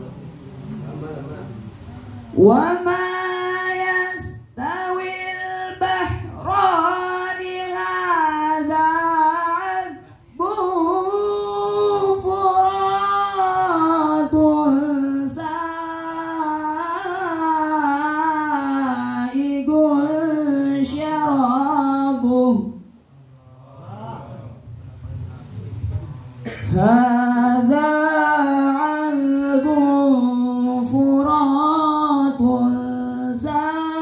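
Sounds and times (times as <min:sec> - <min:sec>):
man chanting over loudspeaker: 0:02.4 - 0:34.0.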